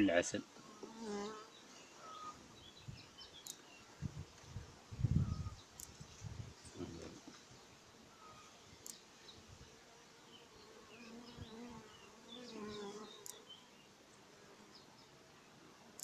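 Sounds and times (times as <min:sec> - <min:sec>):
bees buzzing: 0:00.0 - 0:06.3, 0:07.3 - 0:14.9.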